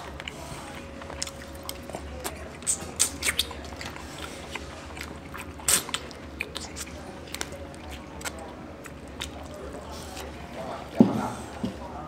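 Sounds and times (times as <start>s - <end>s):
chewing and mouth noises: 0.0s - 11.6s.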